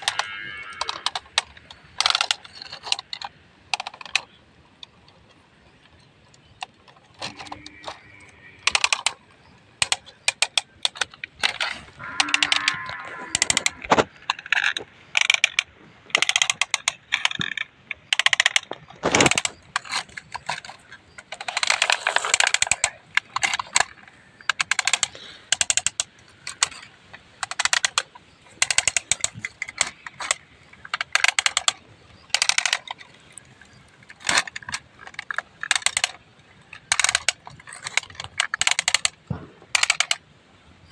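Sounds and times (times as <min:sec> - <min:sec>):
toy excavators clicking and rattling: 0:00.0 - 0:40.9.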